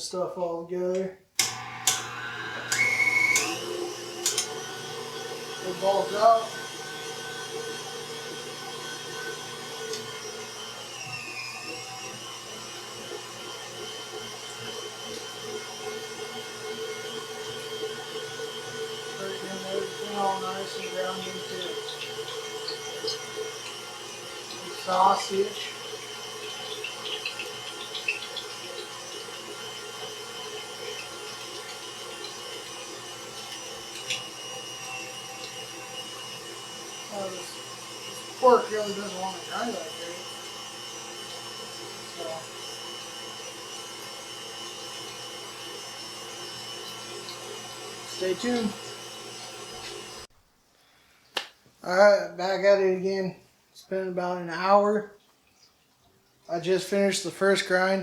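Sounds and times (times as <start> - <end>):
electric meat grinder whining: 1.4 - 50.3.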